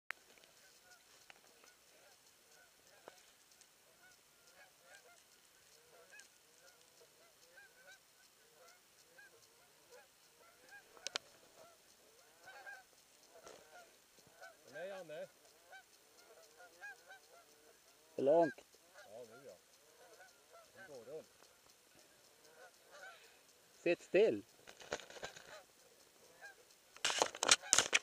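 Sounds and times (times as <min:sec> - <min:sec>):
geese honking: 0:00.2 - 0:28.0.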